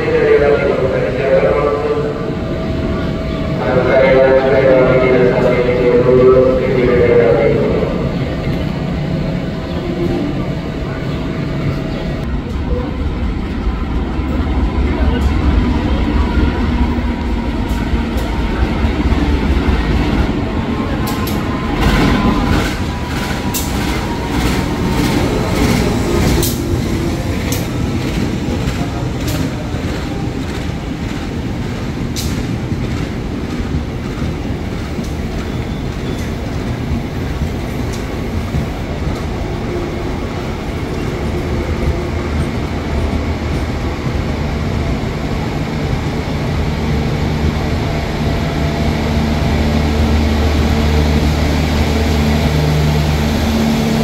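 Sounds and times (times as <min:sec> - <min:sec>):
diesel locomotive rumbling: 0:00.0 - 0:54.0.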